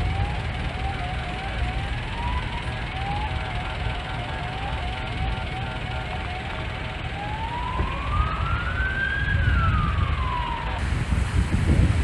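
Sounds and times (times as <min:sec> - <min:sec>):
emergency vehicle siren wailing: 0:00.0 - 0:11.1.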